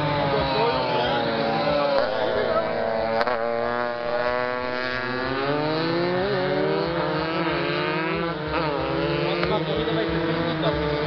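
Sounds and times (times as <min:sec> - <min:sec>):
racing motorcycle engines accelerating: 0:00.0 - 0:11.0.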